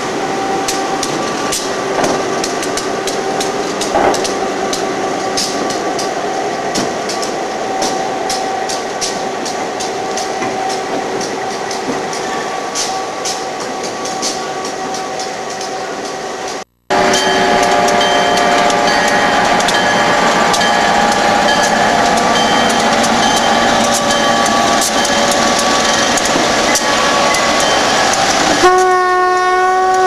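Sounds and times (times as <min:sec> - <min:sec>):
train wheels rumbling on rail: 0:00.0 - 0:30.0
wheels clanking over rail joints: 0:00.0 - 0:30.0.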